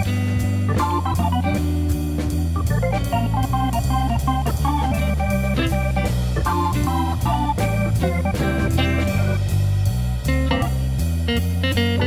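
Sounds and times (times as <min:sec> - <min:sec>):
background music with held chords: 0:00.0 - 0:12.0
moving bass line: 0:00.0 - 0:12.0.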